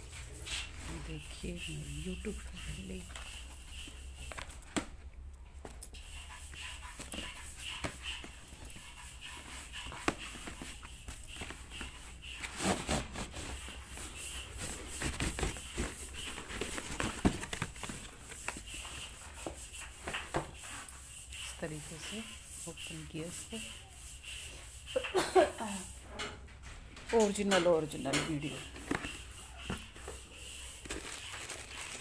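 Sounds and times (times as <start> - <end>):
cardboard rustling and scraping: 0.0 - 23.7, 28.4 - 32.0.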